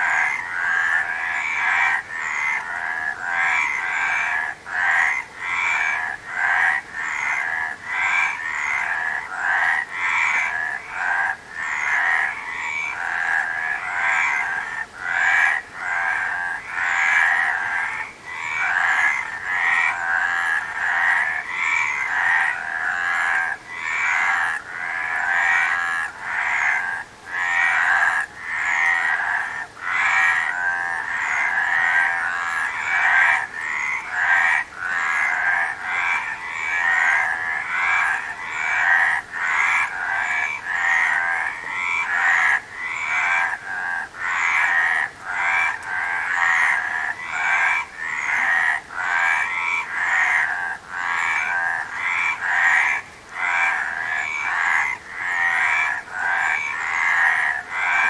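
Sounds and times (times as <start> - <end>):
chorus of frogs croaking: 0.0 - 58.0.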